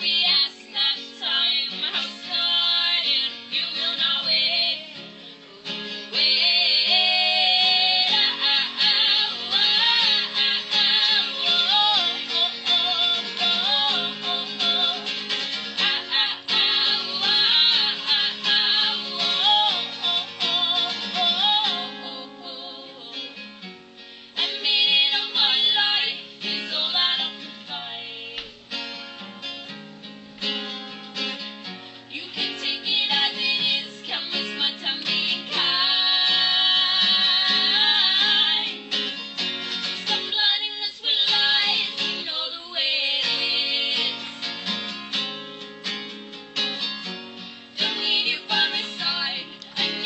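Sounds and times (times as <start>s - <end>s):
person singing: 0.0s - 23.4s, 24.4s - 28.6s, 32.2s - 38.8s, 40.0s - 44.4s, 47.8s - 50.0s
strummed acoustic guitar: 0.0s - 50.0s.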